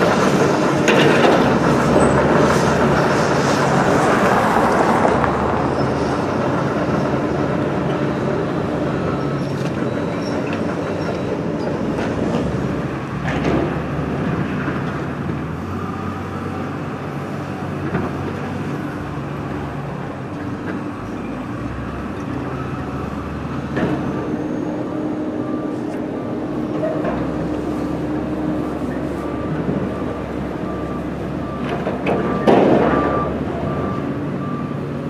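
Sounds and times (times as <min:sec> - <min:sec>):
demolition machinery running: 0:00.0 - 0:35.0.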